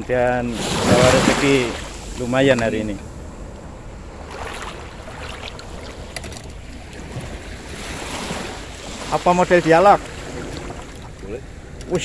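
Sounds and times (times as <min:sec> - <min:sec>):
small waves breaking on shore: 0:00.0 - 0:12.0
wind rumbling on microphone: 0:00.0 - 0:12.0.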